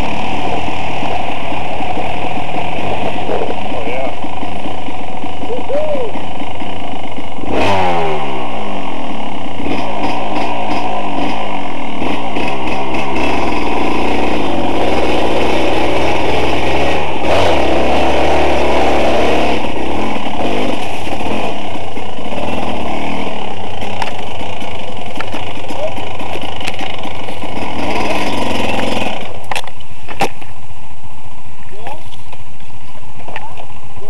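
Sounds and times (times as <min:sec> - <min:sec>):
dirt bike engine revving: 0:00.0 - 0:29.6.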